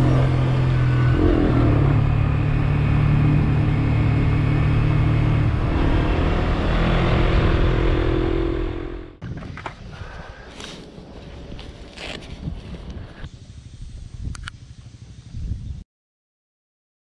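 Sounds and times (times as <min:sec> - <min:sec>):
motorcycle engine running: 0:00.0 - 0:09.2, 0:11.0 - 0:15.8
wind and road noise: 0:00.0 - 0:15.8.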